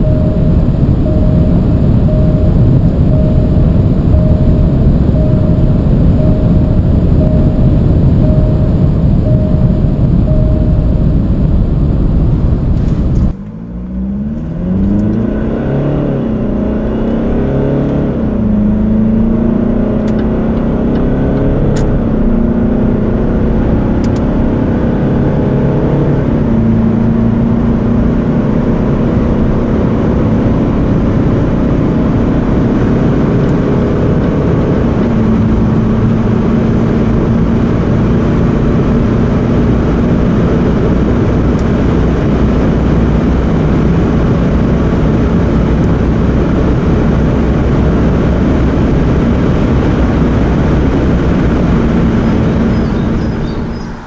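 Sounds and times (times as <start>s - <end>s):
car engine drone: 0.0s - 54.0s
wind and road roar: 0.0s - 54.0s.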